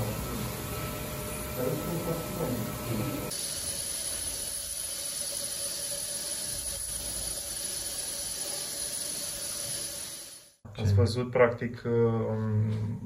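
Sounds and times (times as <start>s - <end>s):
respirator air hissing: 0.0s - 10.6s.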